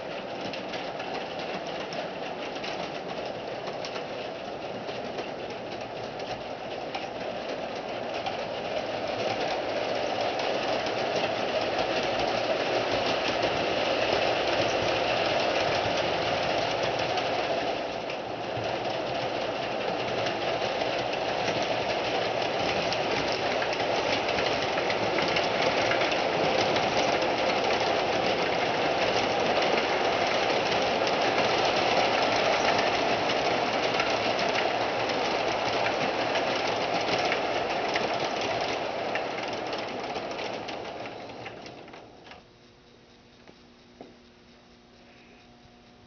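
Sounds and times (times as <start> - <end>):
model train rolling clatter: 0.0 - 44.8.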